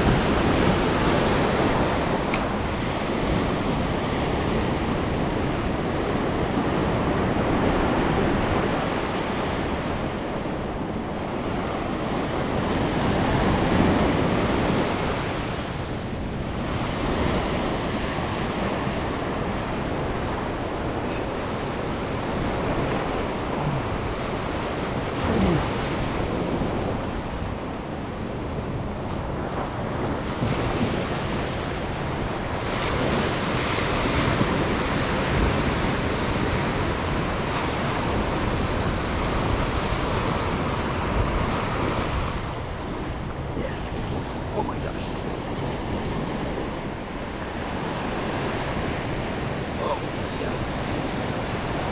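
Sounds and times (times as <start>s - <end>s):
waves breaking on beach: 0.0s - 51.9s.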